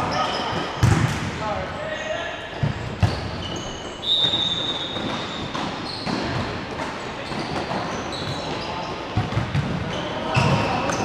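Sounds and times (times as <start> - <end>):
shoes squeaking on floor: 0.0 - 1.0, 1.8 - 11.0.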